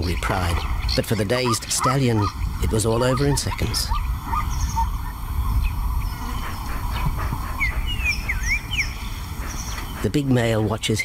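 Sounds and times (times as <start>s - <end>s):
high bird chirps: 0.0s - 10.0s
steady low rumble: 0.0s - 11.0s.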